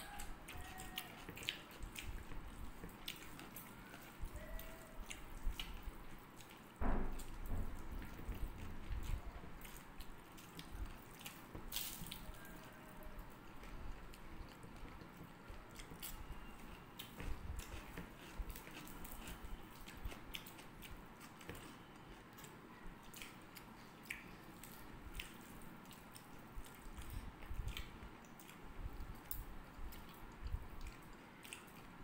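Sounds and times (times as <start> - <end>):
faint chewing sounds: 0.0 - 32.0.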